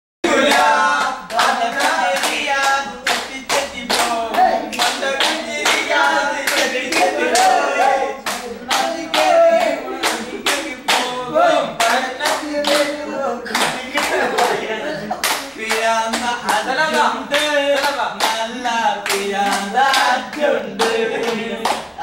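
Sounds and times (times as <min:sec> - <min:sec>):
men clapping in rhythm: 0:00.2 - 0:22.0
men singing together: 0:00.2 - 0:22.0.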